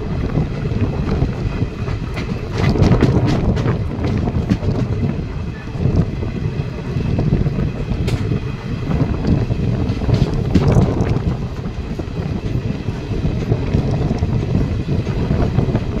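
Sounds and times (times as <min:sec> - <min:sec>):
train wheels rumbling on rails: 0:00.0 - 0:16.0
wheels clacking over rail joints: 0:00.0 - 0:16.0
wind buffeting microphone: 0:00.0 - 0:16.0.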